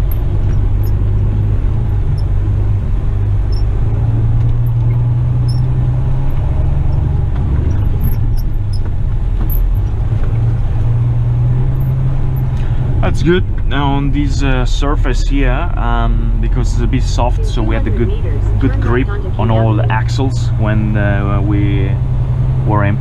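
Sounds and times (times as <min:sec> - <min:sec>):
diesel truck engine droning: 0:00.0 - 0:23.0.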